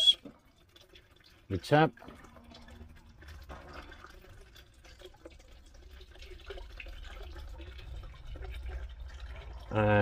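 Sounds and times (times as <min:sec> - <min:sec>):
water hissing in pipes: 0:00.0 - 0:00.5, 0:01.4 - 0:10.0.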